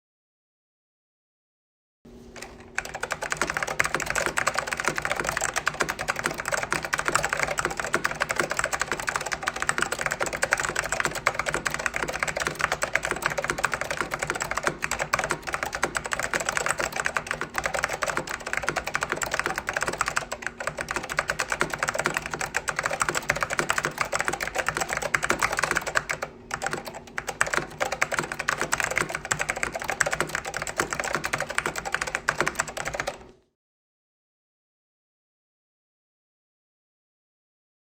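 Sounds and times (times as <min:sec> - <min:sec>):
mechanical keyboard typing: 0:02.4 - 0:33.3.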